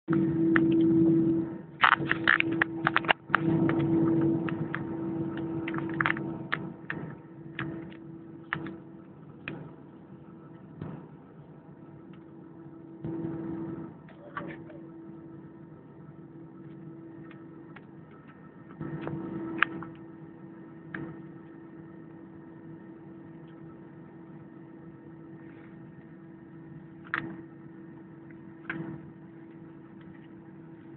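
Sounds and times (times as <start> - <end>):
airplane engines idling hum: 0.0 - 30.9.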